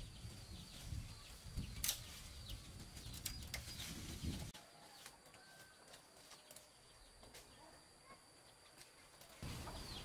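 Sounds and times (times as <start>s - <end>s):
birds chirping: 0.0s - 4.6s, 6.4s - 10.0s.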